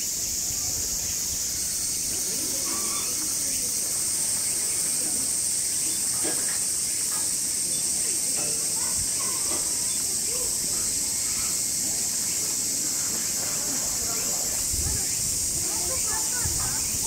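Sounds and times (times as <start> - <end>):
cicadas droning: 0.0 - 17.0.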